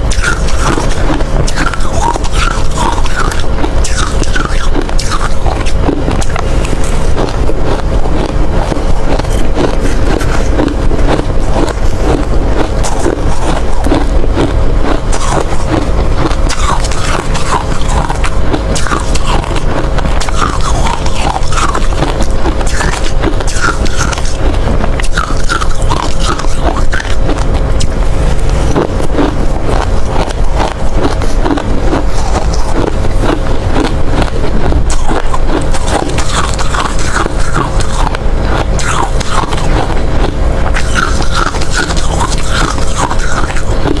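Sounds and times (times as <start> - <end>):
heavy low rumble: 0.0 - 44.0
ice being chewed: 0.0 - 44.0.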